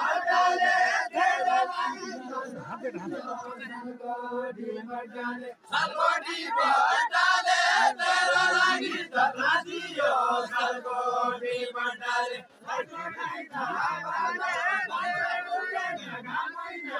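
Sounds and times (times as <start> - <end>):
men singing together: 0.0 - 16.9.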